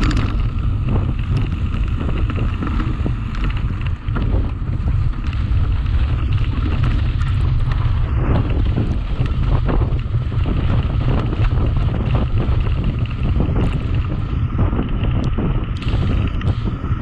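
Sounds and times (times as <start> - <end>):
bike knocks and rattles: 0.0 - 17.0
wind buffeting microphone: 0.0 - 17.0.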